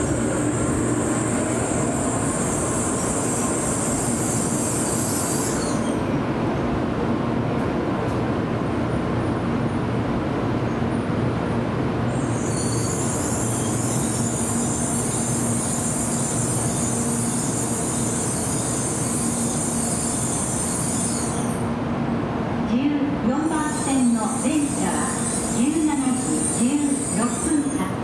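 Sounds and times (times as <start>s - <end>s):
train running with low hum: 0.0s - 28.0s.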